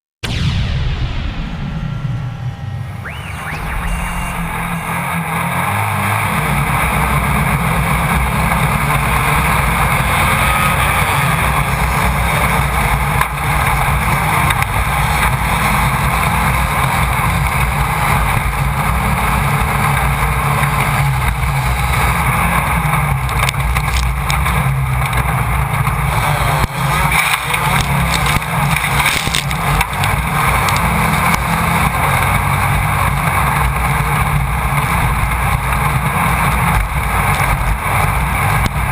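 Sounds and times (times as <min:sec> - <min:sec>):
race car engine running hard: 0:00.2 - 0:38.9
car knocks and clatters: 0:06.6 - 0:38.9.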